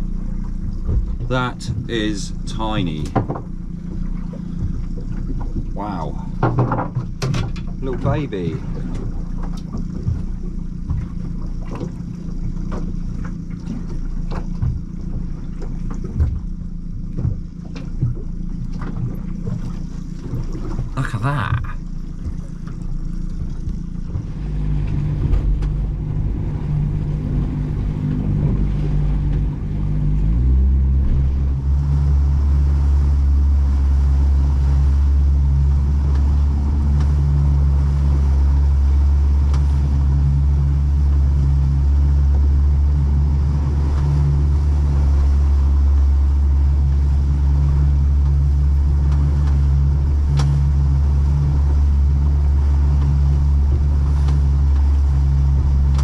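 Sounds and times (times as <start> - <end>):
small boat engine running: 0.0 - 56.0.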